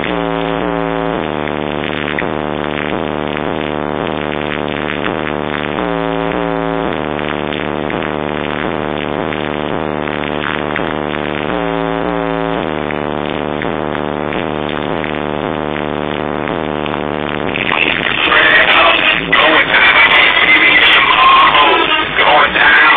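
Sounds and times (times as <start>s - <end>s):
electronic dance music: 0.0s - 22.9s.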